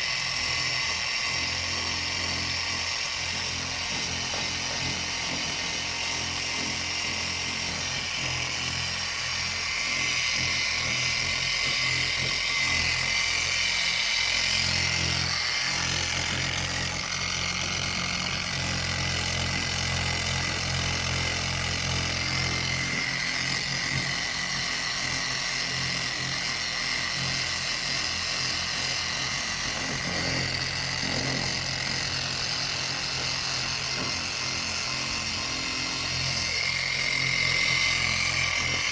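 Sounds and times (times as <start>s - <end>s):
power sander on plastic: 0.0s - 38.9s.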